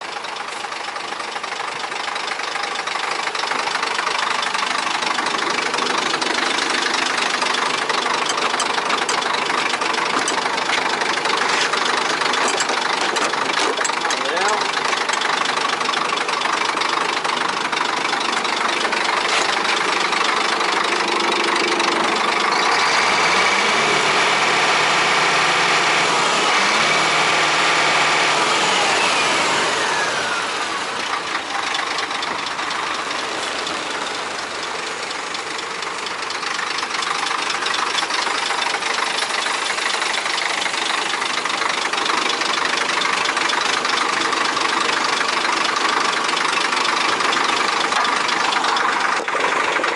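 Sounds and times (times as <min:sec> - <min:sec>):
diesel truck engine idling and revving: 0:00.0 - 0:49.9.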